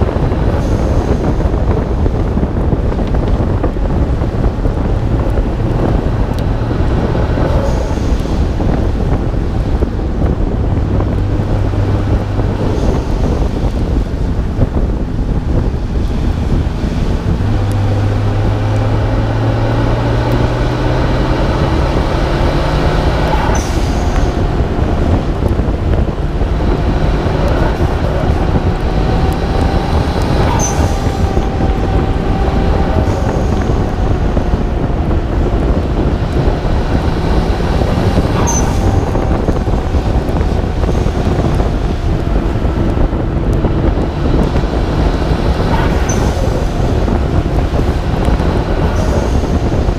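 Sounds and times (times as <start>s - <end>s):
car engine revving under load: 0.0s - 49.9s
wind noise: 0.0s - 49.9s.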